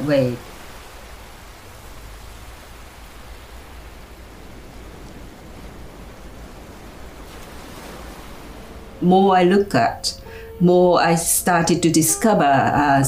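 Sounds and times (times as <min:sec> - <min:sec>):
sea surf washing onto beach: 0:00.0 - 0:11.0.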